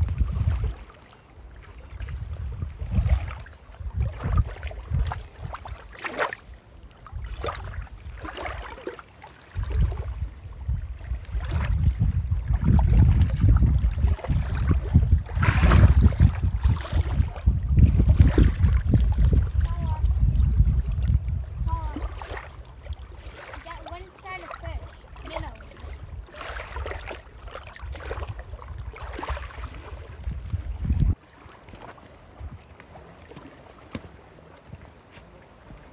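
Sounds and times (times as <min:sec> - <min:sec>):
wind buffeting microphone: 0:00.0 - 0:06.0, 0:06.9 - 0:08.7, 0:09.5 - 0:31.2, 0:32.2 - 0:34.9.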